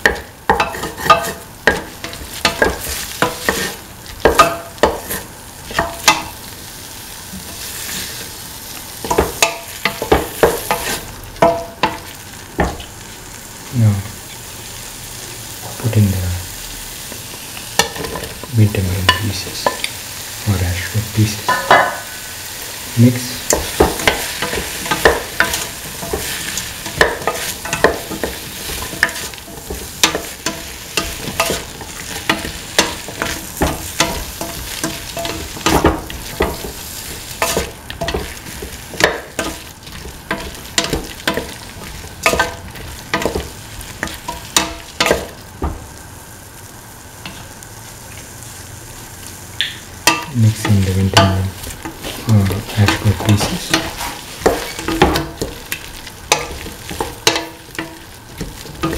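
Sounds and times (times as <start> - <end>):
vegetables sizzling in oil: 0.0 - 58.9.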